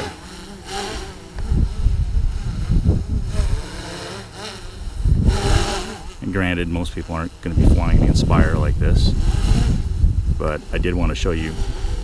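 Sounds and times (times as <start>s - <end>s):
drone propellers buzzing: 0.0s - 12.0s
wind rumbling on microphone: 0.6s - 12.0s.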